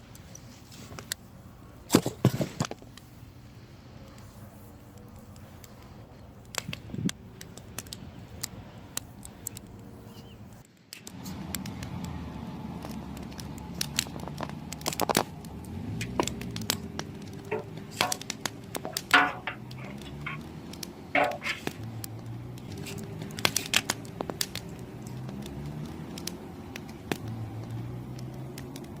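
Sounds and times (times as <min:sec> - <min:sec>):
firewood crackling and popping: 0:00.0 - 0:29.0.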